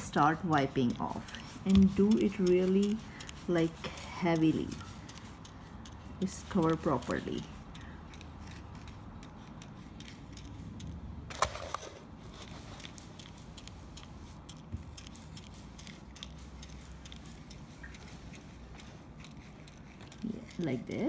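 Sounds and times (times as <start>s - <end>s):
spray bottle spraying: 0.0s - 21.0s.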